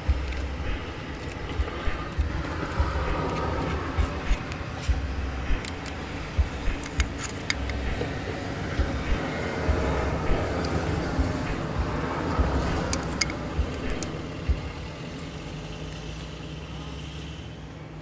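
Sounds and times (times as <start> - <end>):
low thumps: 0.0 - 15.0
steady low rumble: 0.0 - 17.4.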